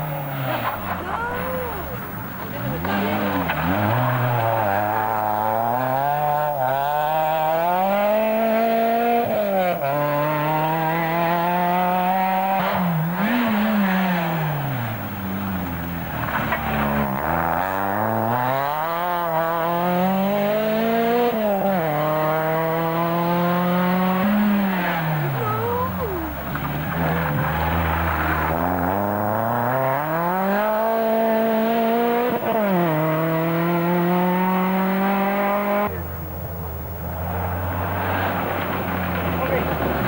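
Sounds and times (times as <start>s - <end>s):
rally car engines revving hard: 0.0s - 40.0s.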